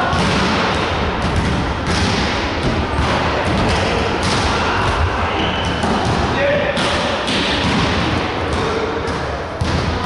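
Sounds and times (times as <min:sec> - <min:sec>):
volleyball thumps echoing: 0:00.0 - 0:10.0.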